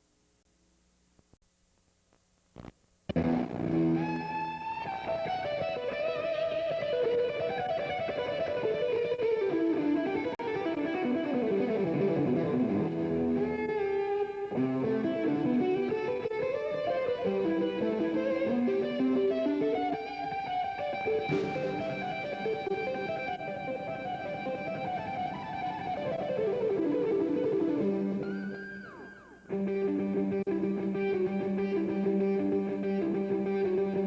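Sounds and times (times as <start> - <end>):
plucked guitar instrumental music: 3.1 - 34.0.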